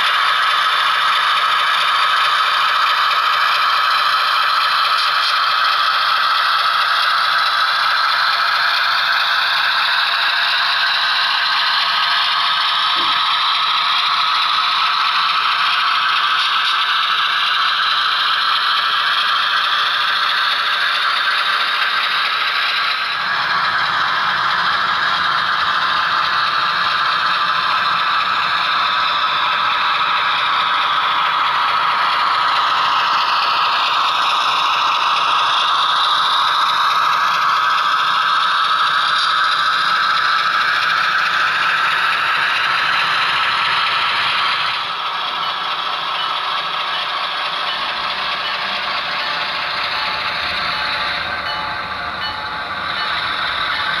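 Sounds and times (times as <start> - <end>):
model train wheels clattering: 0.0 - 54.0.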